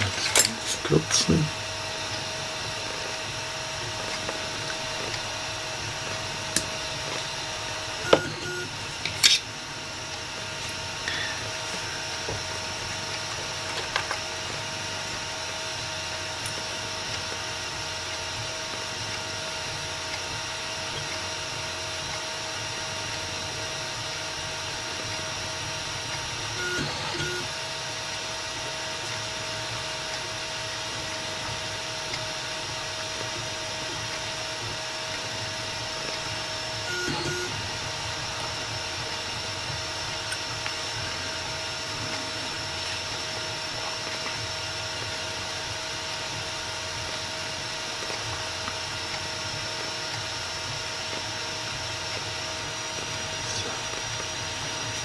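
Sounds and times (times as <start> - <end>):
whirring hum and hiss: 0.0 - 55.0.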